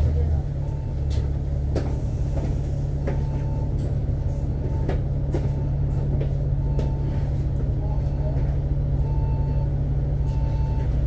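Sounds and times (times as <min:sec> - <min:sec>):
bus body rattles and clicks: 0:00.0 - 0:11.0
bus engine drone: 0:00.0 - 0:11.0.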